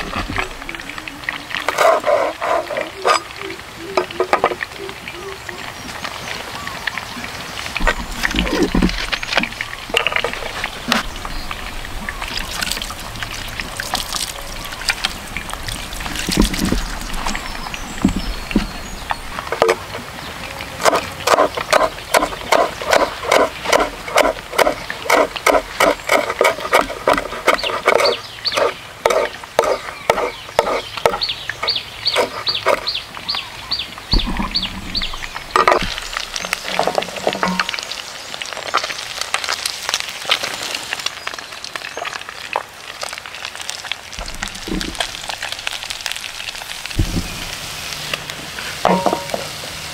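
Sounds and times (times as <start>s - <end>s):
water splashing: 0.0s - 49.9s
wood fire burning: 0.0s - 49.9s.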